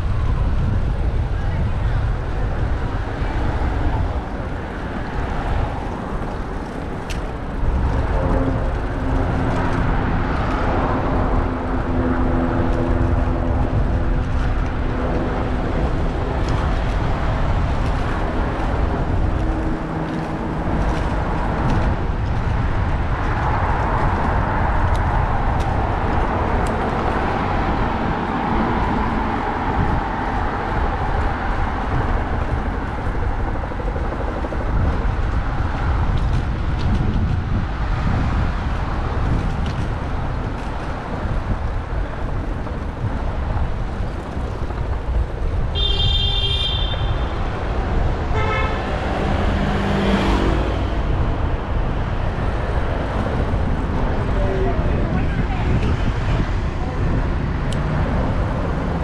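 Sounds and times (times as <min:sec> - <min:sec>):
rumble of passing traffic: 0:00.0 - 0:59.0
vehicle engine humming: 0:00.0 - 0:59.0
wind on microphone: 0:00.0 - 0:59.0.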